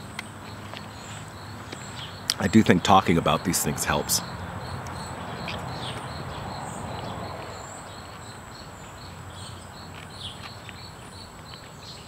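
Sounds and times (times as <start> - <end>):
insects droning high-pitched whine: 0.0 - 12.0
rapid pulsing insect trill: 0.4 - 12.0.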